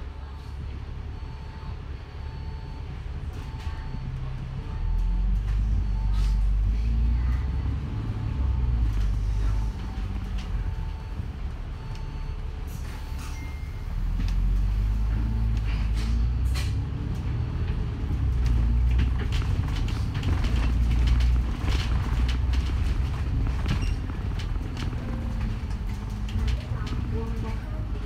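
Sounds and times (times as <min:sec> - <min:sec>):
bus engine rumbling: 0:00.0 - 0:28.0.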